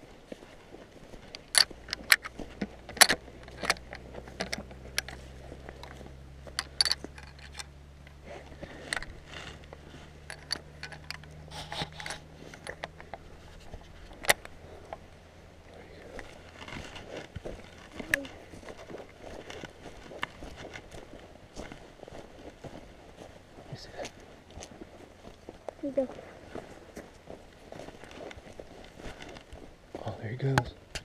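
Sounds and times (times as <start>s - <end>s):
clothing and rifle handling noise: 0.0s - 15.1s, 16.1s - 22.8s, 26.4s - 31.0s.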